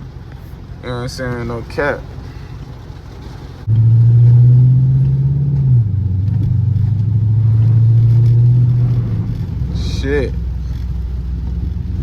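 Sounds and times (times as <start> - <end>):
car exhaust drone under throttle: 0.0 - 12.0.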